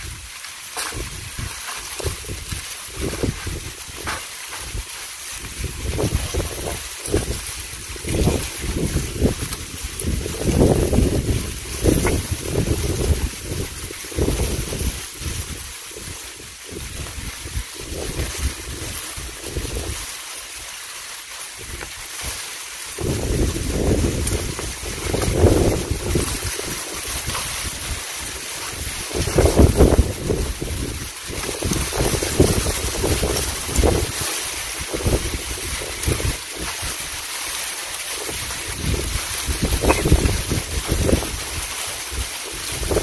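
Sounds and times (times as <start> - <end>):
wind buffeting microphone: 0.0 - 20.1, 21.6 - 37.2, 38.2 - 43.0
steady hiss: 0.0 - 43.0.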